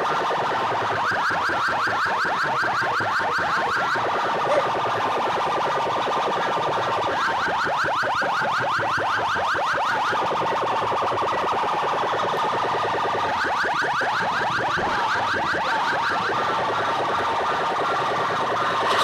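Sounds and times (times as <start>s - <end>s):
electronic siren alarm wailing: 0.0s - 19.0s.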